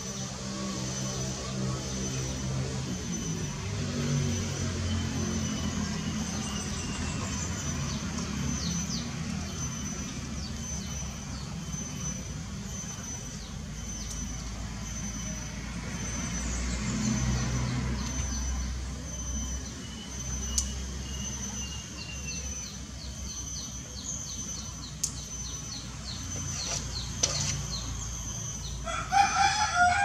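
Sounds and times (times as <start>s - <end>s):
bird chirps: 0.9s - 28.9s.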